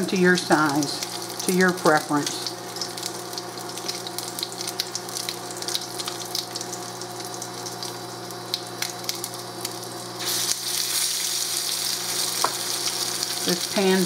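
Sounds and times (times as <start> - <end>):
fish patty sizzling in a pan: 0.0 - 14.0.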